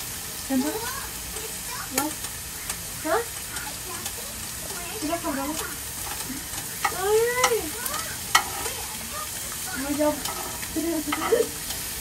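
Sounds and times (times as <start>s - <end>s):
food sizzling on grill: 0.0s - 12.0s
utensils clicking against grill: 1.4s - 12.0s.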